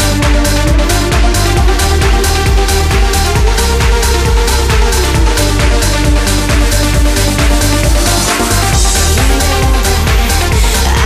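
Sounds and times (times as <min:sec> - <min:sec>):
trance dance music: 0:00.0 - 0:11.0.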